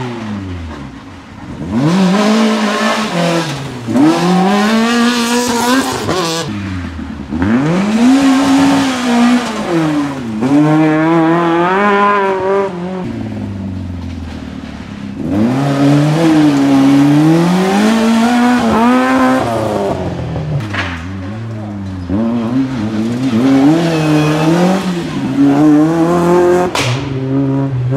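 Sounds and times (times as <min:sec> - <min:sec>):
rally car engines revving: 0:00.0 - 0:27.9.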